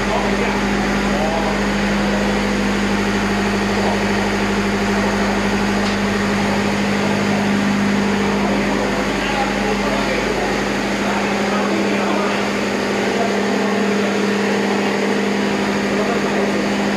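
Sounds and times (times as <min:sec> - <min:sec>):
diesel engine droning: 0:00.0 - 0:16.9.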